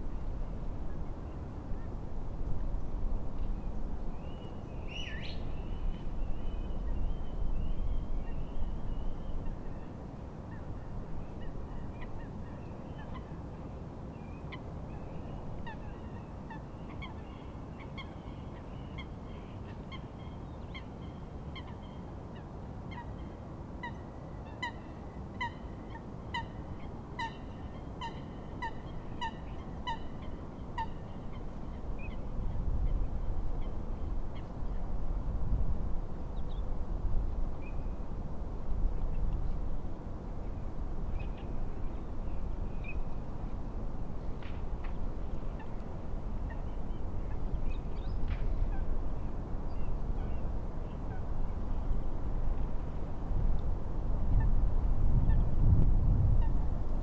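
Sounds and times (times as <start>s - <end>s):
steady wind: 0.0s - 57.0s.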